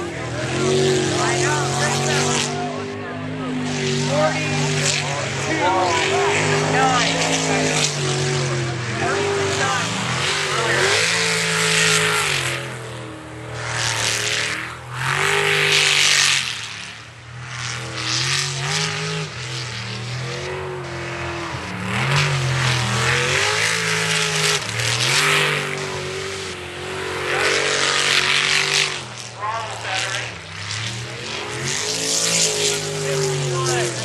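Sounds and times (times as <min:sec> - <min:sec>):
boat engine revving: 0:00.0 - 0:34.0.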